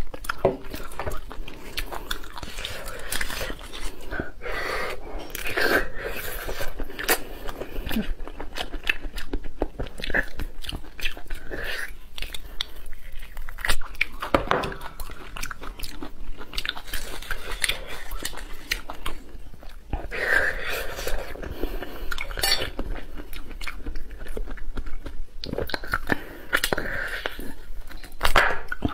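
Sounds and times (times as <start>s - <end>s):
chewing bone marrow crunches: 0.0s - 28.9s.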